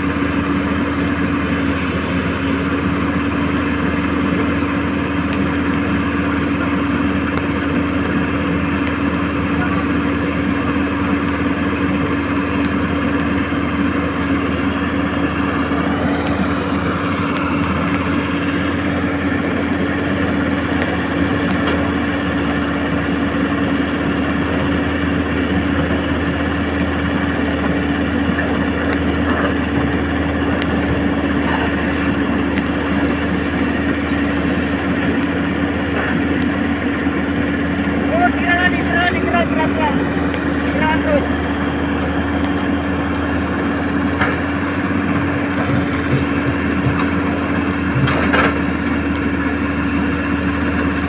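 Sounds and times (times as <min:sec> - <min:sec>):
constant hum: 0:00.0 - 0:51.0.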